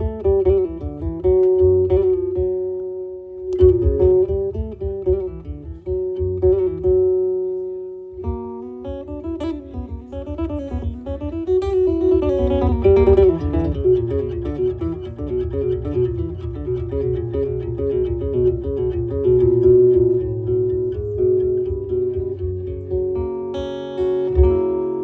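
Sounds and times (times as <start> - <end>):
low beat: 0.0 - 25.0
strummed guitar: 0.0 - 25.0.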